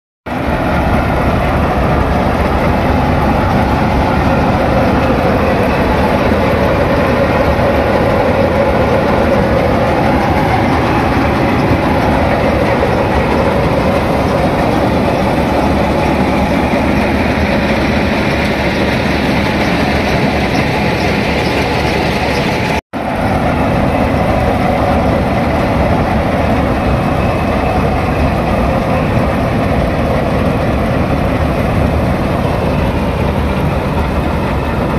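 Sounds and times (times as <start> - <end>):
combine harvester running: 0.3 - 34.9.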